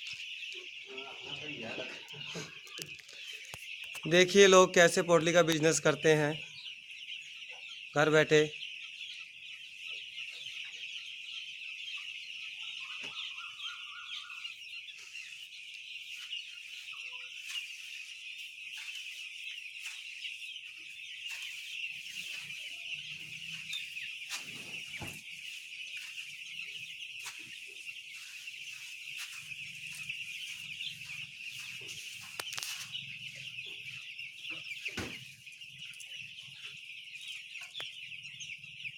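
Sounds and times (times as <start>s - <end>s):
chickens cheeping and clucking: 0.0s - 38.9s.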